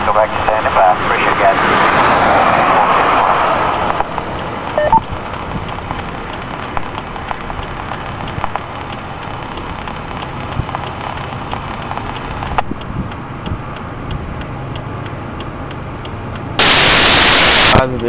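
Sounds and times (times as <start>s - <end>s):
rush of noise: 0.0s - 13.7s, 16.6s - 17.9s
light rain ticking: 2.0s - 18.0s.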